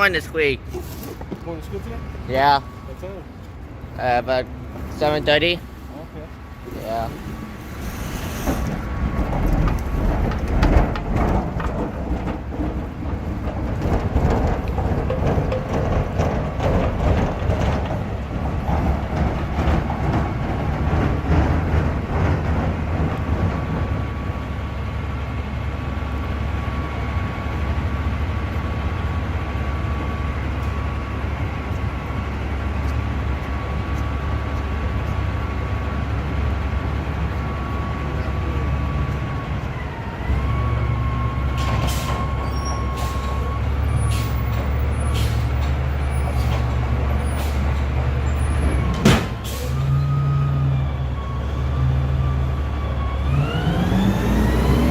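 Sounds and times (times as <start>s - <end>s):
diesel truck engine running: 1.3s - 54.9s.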